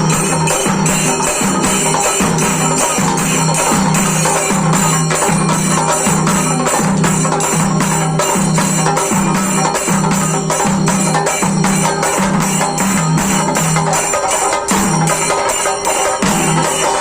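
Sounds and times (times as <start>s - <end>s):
jingling clacking percussion beat: 0.0s - 17.0s.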